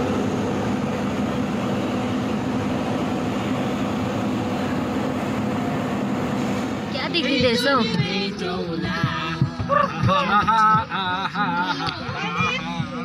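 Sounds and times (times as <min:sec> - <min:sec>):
turbine generator roaring: 0:00.0 - 0:13.0.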